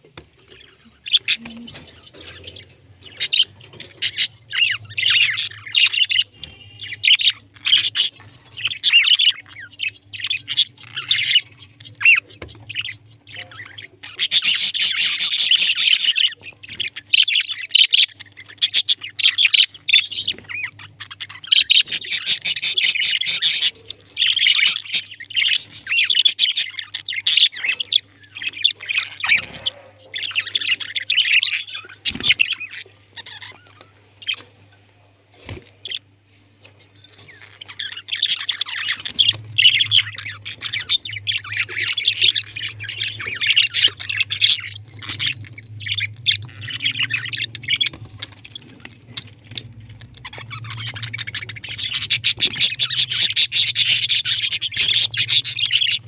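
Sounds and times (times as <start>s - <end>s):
budgerigars chattering: 0.0s - 56.0s
faint low hum: 0.0s - 56.0s.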